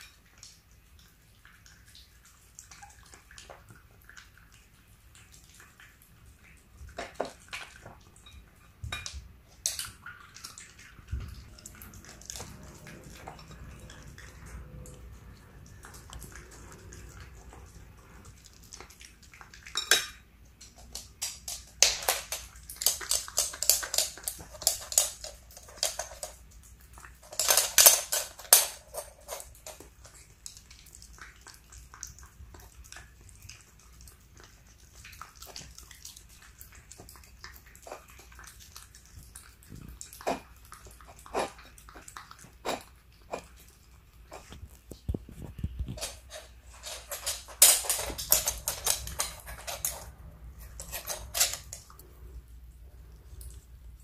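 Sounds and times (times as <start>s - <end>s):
dog lapping food: 0.0s - 19.8s, 20.5s - 54.0s.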